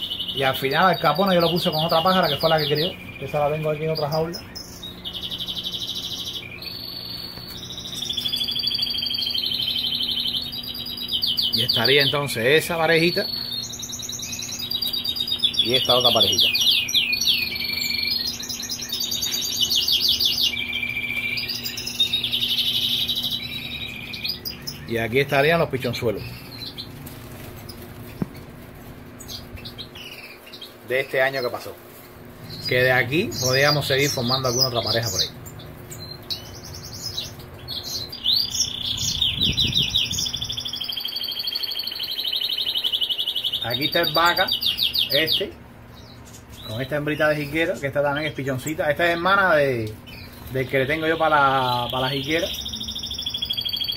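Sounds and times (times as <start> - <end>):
finches singing: 0.0 - 53.9
goldfinches twittering and trilling: 0.0 - 53.9.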